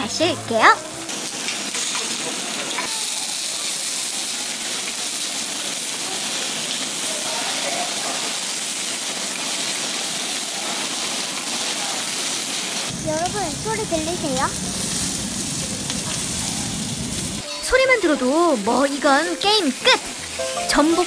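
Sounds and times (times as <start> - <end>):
seafood sizzling on griddle: 0.2 - 19.6.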